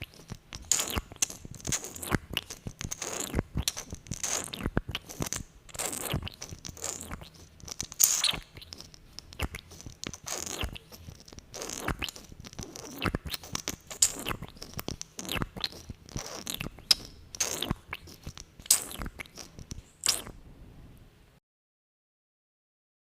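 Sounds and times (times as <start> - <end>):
wet lip smacks and clicks: 0.0 - 20.4.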